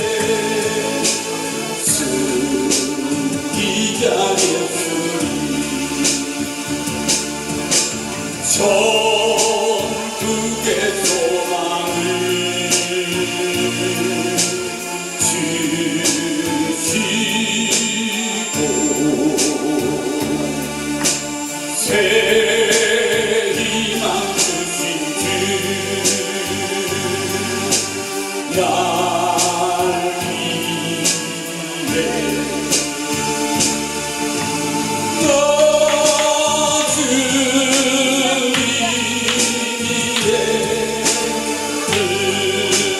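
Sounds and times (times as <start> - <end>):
man singing a hymn into a microphone: 0.0 - 7.0, 8.3 - 34.4, 35.1 - 42.9
electronic keyboard with bass notes: 0.0 - 42.9.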